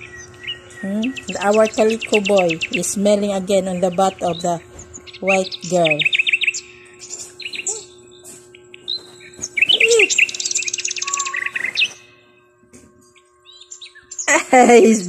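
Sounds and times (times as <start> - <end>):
small birds chirping: 0.0 - 12.4, 13.0 - 15.0.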